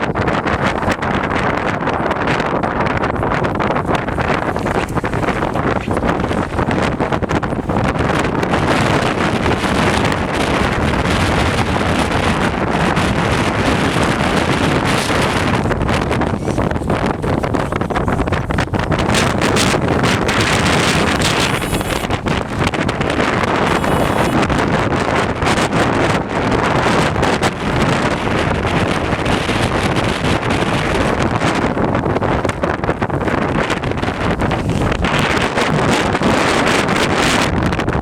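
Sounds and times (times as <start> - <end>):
blizzard wind buffeting microphone: 0.0 - 38.0.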